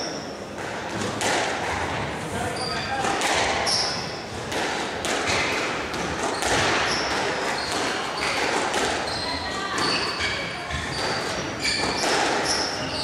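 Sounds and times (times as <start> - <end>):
squash ball hitting rackets and walls: 0.0 - 13.0
sneakers squeaking on court floor: 1.1 - 4.5, 5.2 - 13.0.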